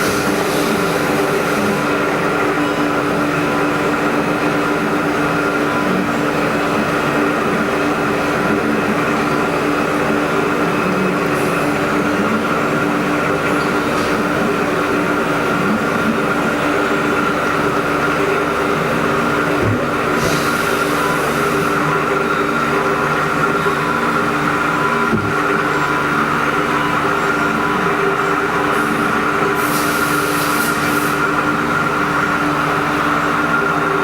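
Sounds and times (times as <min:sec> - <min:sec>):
milling machine humming: 0:00.0 - 0:34.0.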